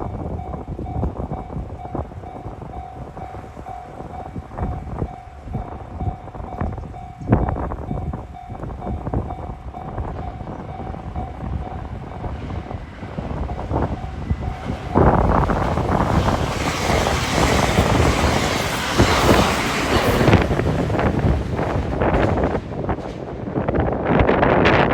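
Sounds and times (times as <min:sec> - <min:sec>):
train wheels rushing on rail: 0:00.0 - 0:24.9.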